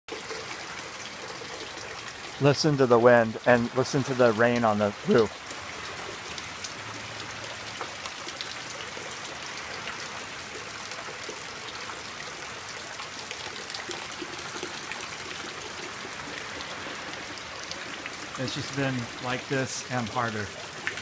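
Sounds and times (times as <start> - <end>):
heavy rain on a metal roof: 0.1 - 21.0
rain drops ticking: 0.1 - 21.0.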